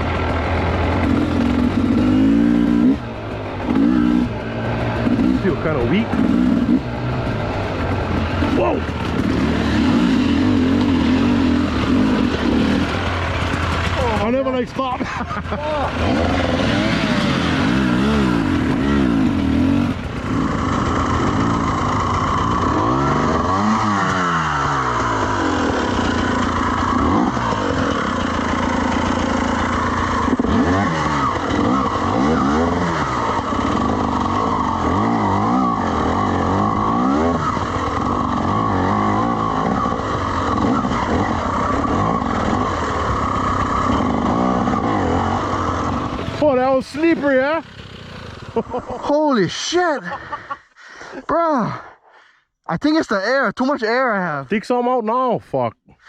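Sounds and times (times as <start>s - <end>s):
dirt bike engine revving: 0.0s - 50.5s.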